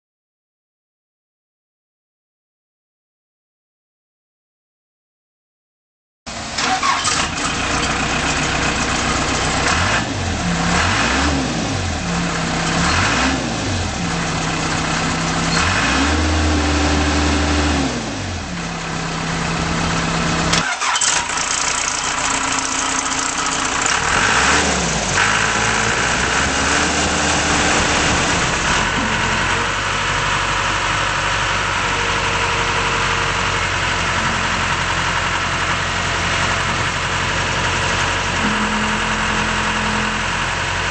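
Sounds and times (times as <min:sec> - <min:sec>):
diesel engine revving and idling: 0:06.3 - 0:40.9.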